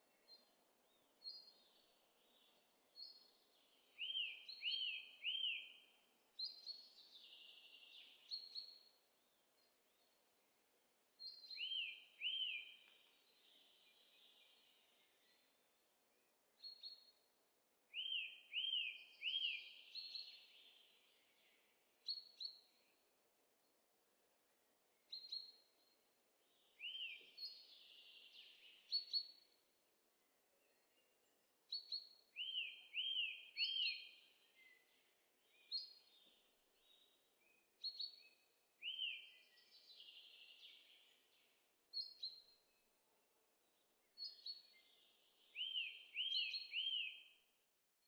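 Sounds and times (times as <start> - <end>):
songbird singing: 0.0 - 47.7
faint outdoor background noise: 0.0 - 48.0.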